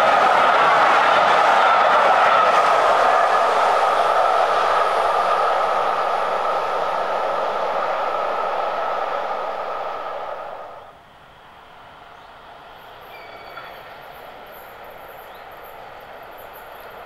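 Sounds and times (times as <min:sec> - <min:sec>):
train coaches rolling past: 0:00.0 - 0:17.0.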